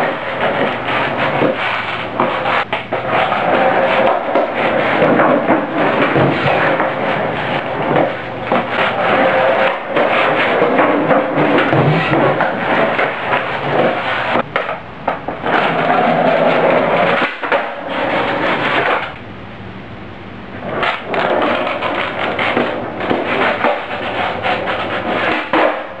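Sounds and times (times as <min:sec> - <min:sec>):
skateboard clacks and knocks: 0:00.0 - 0:19.2, 0:20.7 - 0:26.0
skateboard rolling on concrete: 0:00.0 - 0:19.2, 0:20.6 - 0:26.0.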